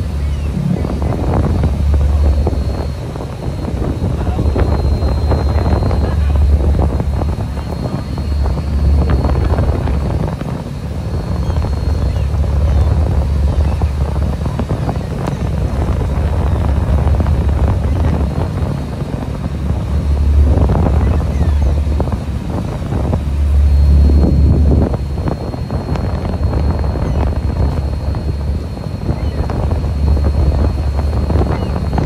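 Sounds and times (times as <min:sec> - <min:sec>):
boat engine rumbling: 0:00.0 - 0:32.0
wind buffeting microphone: 0:00.0 - 0:32.0.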